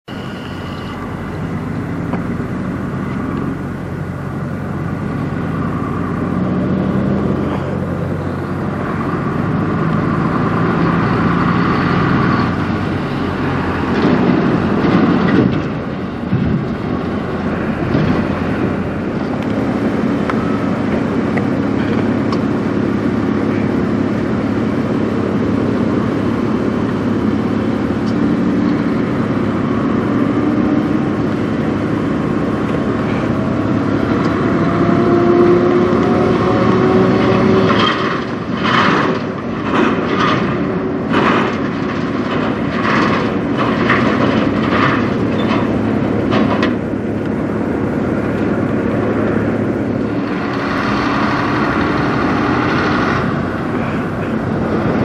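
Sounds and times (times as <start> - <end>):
trucks passing on highway: 0.0 - 55.0
tyre and road noise: 0.0 - 55.0.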